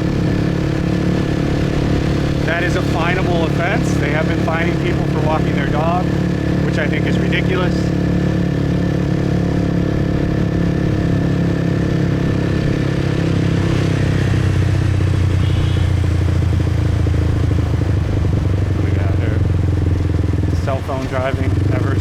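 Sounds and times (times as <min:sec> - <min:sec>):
motorbike engine running: 0:00.0 - 0:22.0.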